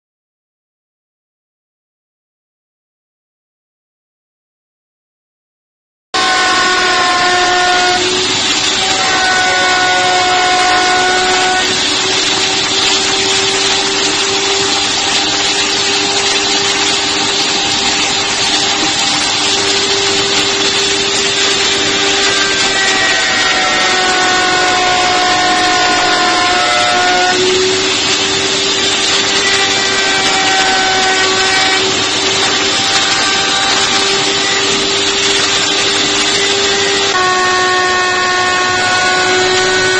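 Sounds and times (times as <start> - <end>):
router bit cutting wood: 6.2 - 39.9
router motor whine: 6.2 - 39.9.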